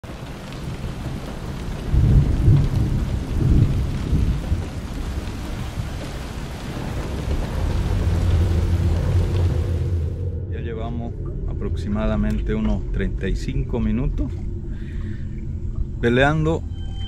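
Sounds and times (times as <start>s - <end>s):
low rolling thunder: 0.0s - 14.9s
steady rain: 0.0s - 17.0s.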